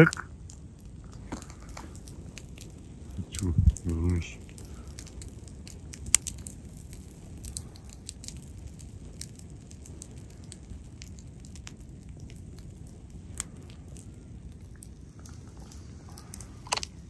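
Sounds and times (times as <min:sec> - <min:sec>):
campfire crackling and popping: 0:00.0 - 0:17.0
low rumble: 0:00.0 - 0:17.0.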